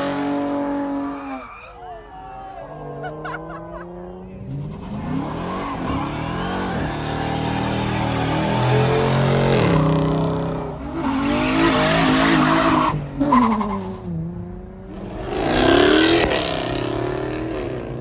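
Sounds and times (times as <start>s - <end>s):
car engines revving and accelerating: 0.0s - 1.6s, 2.6s - 18.0s.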